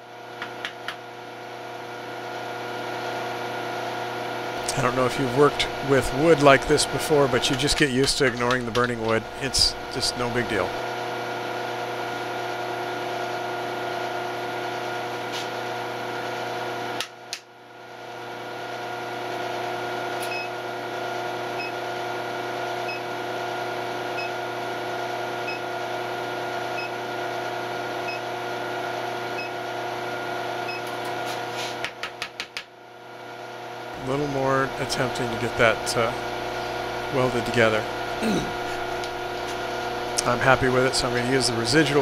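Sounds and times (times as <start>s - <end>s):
induction heater humming: 0.0s - 42.0s.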